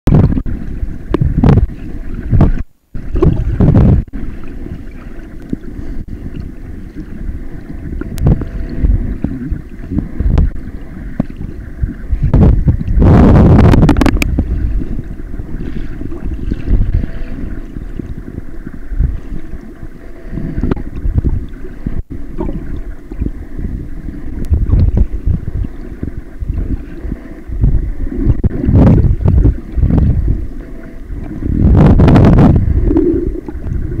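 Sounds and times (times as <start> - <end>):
muffled underwater rumble and slosh: 0.1 - 34.0
water splashing: 0.2 - 34.0.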